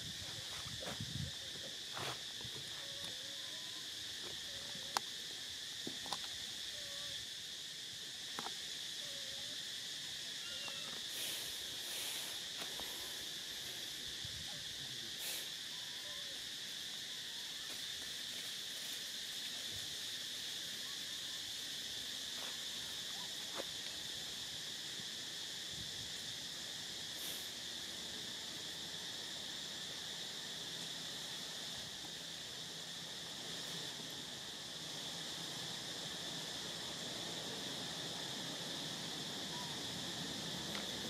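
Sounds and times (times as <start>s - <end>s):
insect chorus drone: 0.0s - 41.0s.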